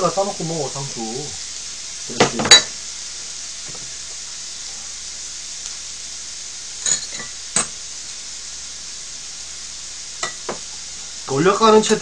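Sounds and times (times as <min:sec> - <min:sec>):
meat sizzling on griddle: 0:00.0 - 0:12.0.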